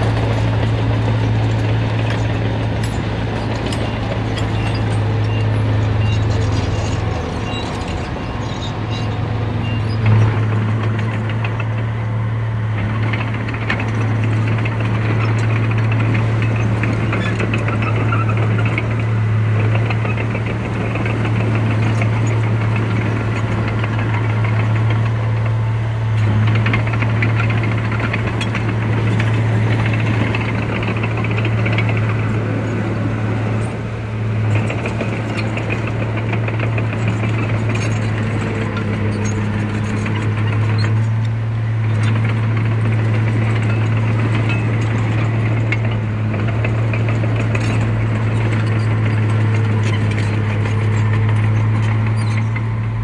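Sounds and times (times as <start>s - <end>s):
heavy diesel engine humming: 0.0s - 53.0s.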